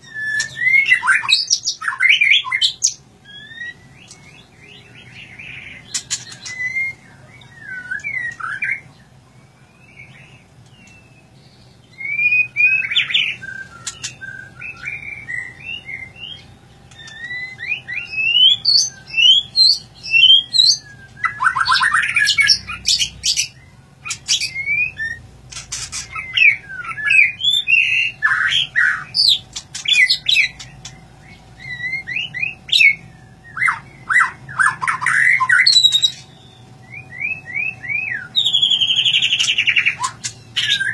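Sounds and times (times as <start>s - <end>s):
bird singing whistled phrases: 0.0s - 40.9s
harsh rattling bird calls: 0.0s - 40.9s.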